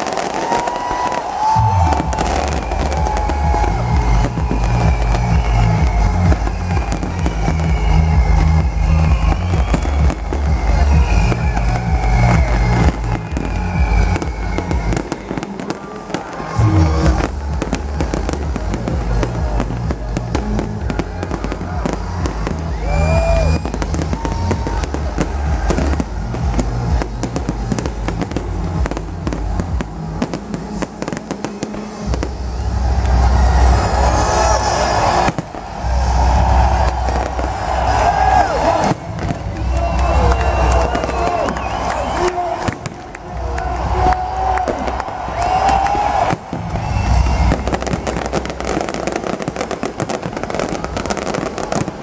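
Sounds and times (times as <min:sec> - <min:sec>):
crowd cheering: 0:00.0 - 0:52.0
electronic dance music: 0:00.0 - 0:52.0
fireworks bursting and crackling: 0:00.0 - 0:52.0.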